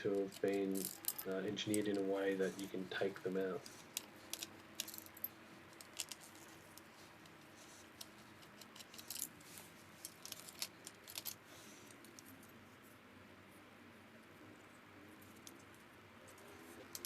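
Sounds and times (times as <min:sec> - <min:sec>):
small parts clicking and clinking: 0:00.0 - 0:12.6, 0:15.2 - 0:17.0.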